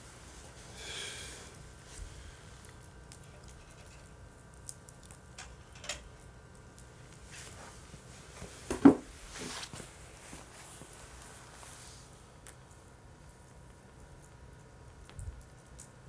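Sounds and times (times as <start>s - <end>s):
campfire crackling: 0.0s - 8.4s, 9.2s - 16.0s.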